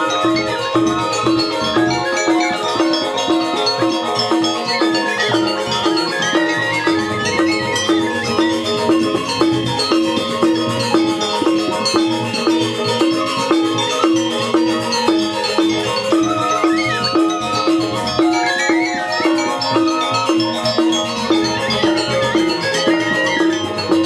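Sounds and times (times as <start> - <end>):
bamboo flutes playing melody: 0.0 - 24.0
metallophones struck with mallets: 0.0 - 24.0.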